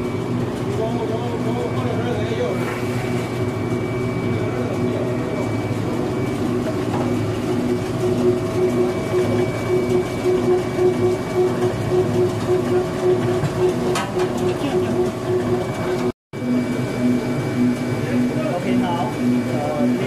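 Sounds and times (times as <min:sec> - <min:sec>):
machine motor hum: 0:00.0 - 0:20.0
regular mechanical pulsing: 0:00.0 - 0:20.0.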